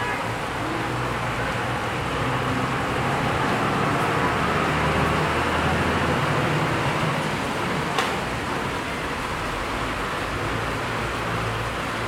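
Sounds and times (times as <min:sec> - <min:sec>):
rain: 0:00.0 - 0:12.0
tyres hissing on wet road: 0:00.0 - 0:12.0.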